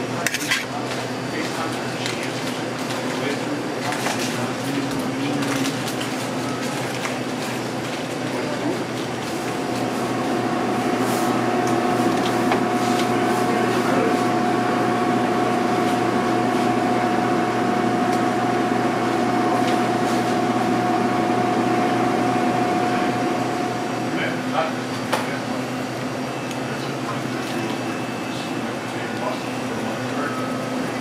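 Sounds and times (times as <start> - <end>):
machine hum: 1.1 - 31.0.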